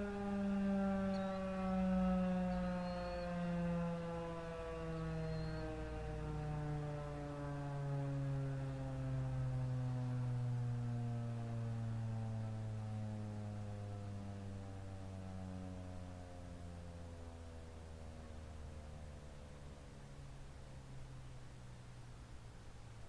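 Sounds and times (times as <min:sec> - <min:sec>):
warning siren winding down: 0:00.0 - 0:19.3.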